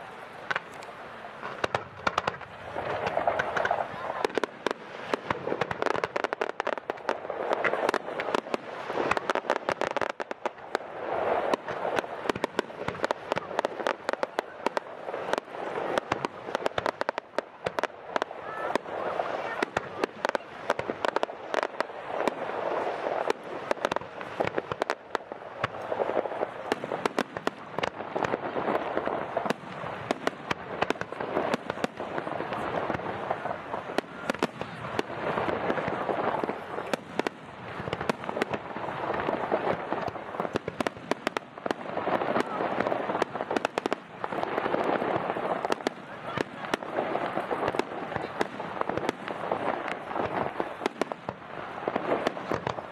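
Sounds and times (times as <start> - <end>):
crackling rush of fireworks: 0.0 - 52.9
fireworks cracking and banging: 0.0 - 52.9.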